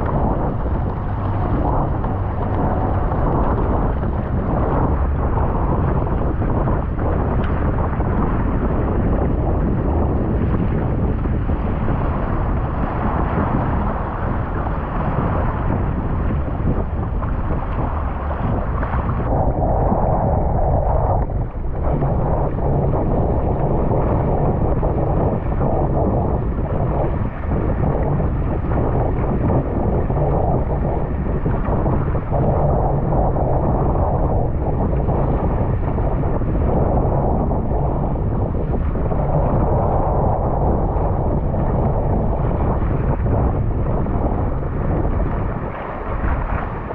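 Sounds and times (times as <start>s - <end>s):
water rushing and splashing: 0.0s - 46.9s
wind buffeting microphone: 0.0s - 46.9s.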